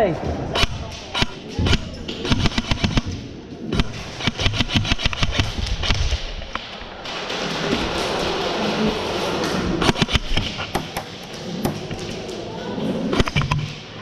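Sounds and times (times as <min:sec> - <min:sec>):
steady rushing noise: 0:00.4 - 0:14.0.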